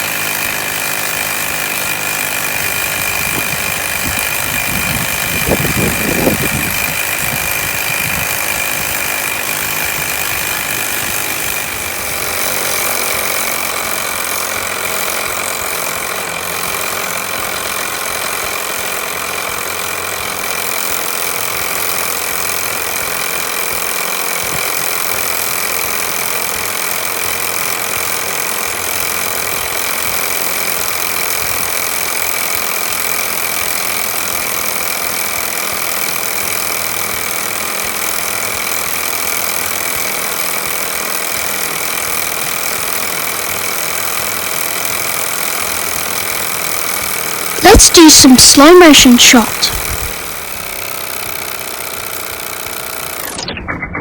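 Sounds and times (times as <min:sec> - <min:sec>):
toy steam engine whirring: 0:00.0 - 0:53.5.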